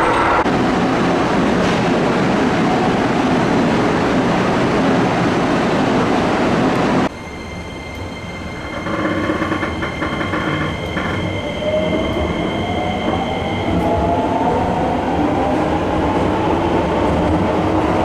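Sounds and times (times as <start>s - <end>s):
train rumbling through station: 0.0s - 18.0s.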